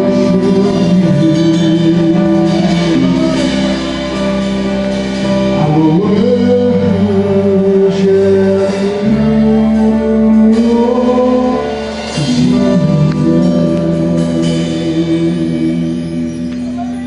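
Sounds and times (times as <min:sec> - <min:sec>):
band playing: 0:00.0 - 0:17.0
person singing long held notes: 0:00.0 - 0:17.0.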